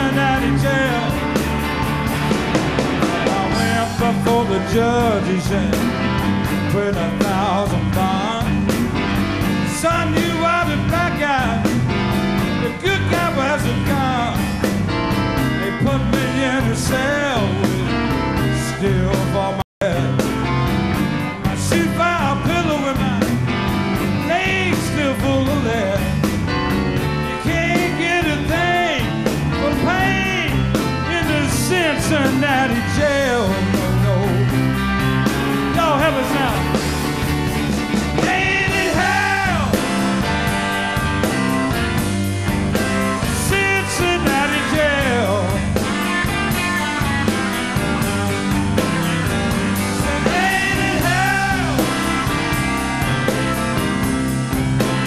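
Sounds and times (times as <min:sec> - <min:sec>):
electric bass: 0:00.0 - 0:55.0
electric guitar lead with bent notes: 0:00.0 - 0:55.0.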